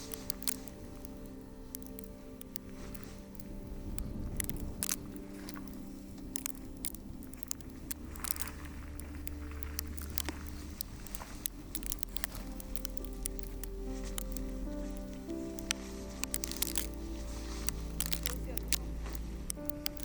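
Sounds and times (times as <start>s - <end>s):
footsteps crunching on gravel: 1.7s - 20.0s.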